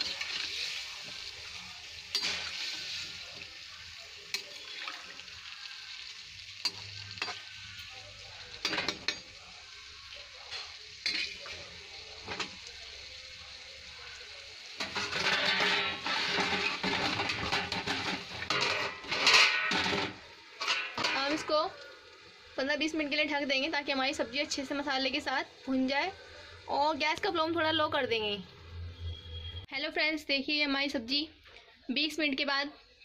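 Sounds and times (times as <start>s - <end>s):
curry sizzling and simmering: 0.0s - 29.6s.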